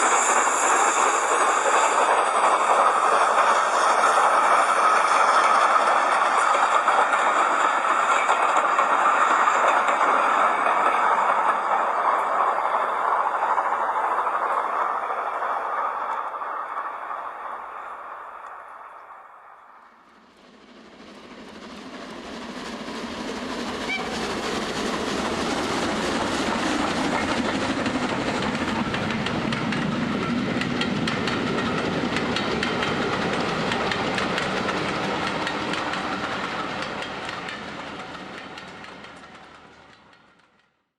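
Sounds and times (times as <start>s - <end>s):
rapid train clicks: 0.0s - 19.4s, 20.1s - 40.9s
steam train passing: 0.0s - 40.9s.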